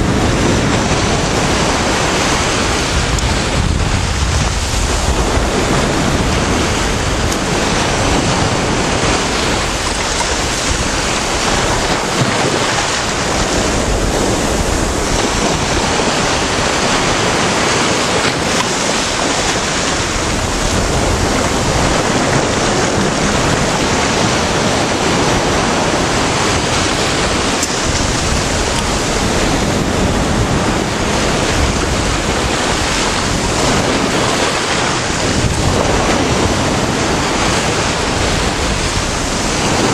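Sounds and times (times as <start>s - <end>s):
sea waves breaking: 0.0s - 39.9s
wind buffeting microphone: 0.0s - 39.9s.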